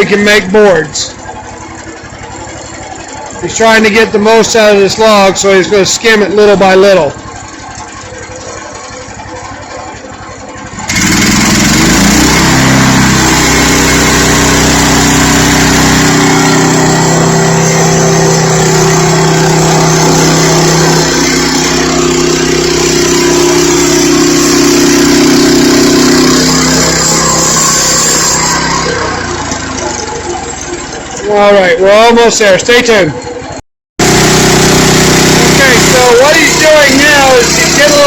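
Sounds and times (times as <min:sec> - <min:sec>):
band saw cutting through log: 0:00.0 - 0:07.2, 0:10.7 - 0:33.0, 0:34.0 - 0:38.0
gas engine running: 0:00.0 - 0:38.0.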